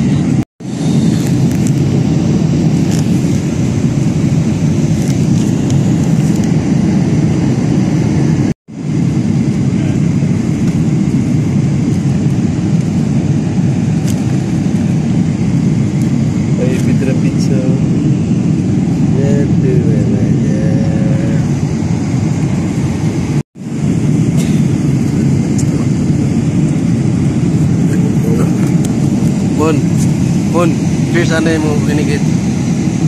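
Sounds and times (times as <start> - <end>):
airliner cabin roar: 0.0 - 33.0.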